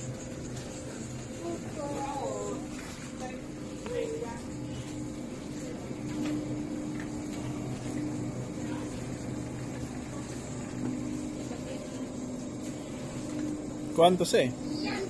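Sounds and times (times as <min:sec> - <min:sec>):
refrigerated coolers humming: 0:00.0 - 0:15.0.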